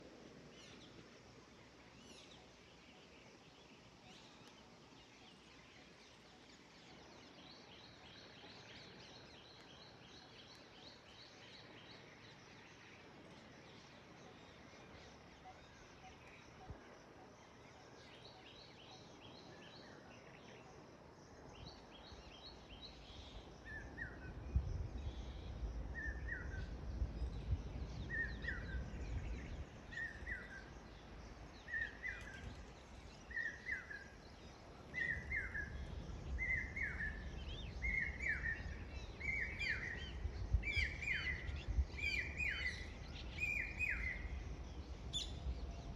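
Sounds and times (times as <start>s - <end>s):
birds singing: 1.6s - 45.9s.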